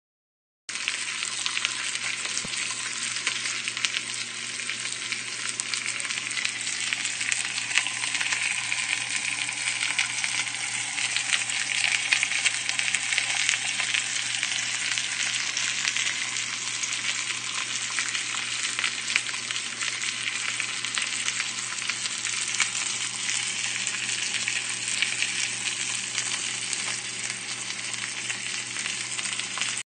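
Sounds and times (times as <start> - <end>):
pork chop sizzling in frying pan: 0.7 - 29.8.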